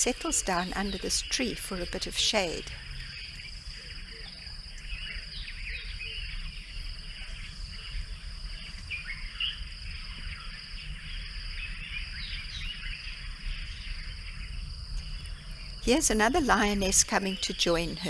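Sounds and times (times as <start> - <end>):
bird chirps: 0.0 - 18.0
high insect trill: 0.0 - 18.0.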